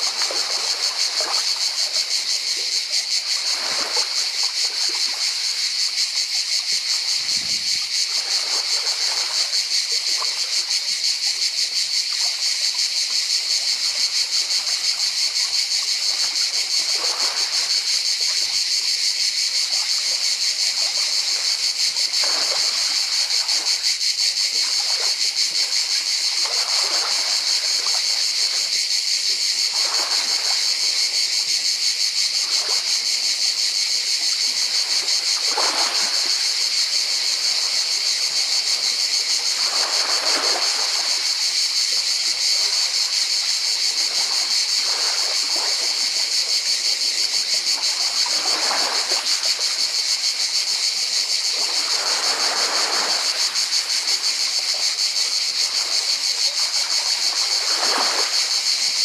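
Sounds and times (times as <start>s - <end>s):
waves lapping over pebbles: 0.0s - 10.9s, 13.4s - 18.6s, 19.6s - 31.4s, 32.3s - 59.0s
cicadas buzzing: 0.0s - 59.0s.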